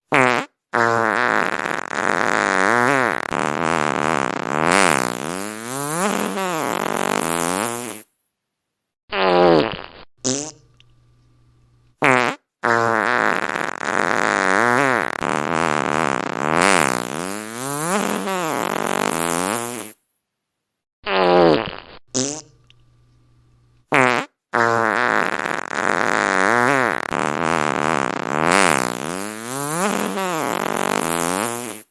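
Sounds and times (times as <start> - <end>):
fart sounds: 0.0 - 8.1, 9.1 - 10.8, 12.0 - 20.0, 21.0 - 22.7, 23.8 - 31.9.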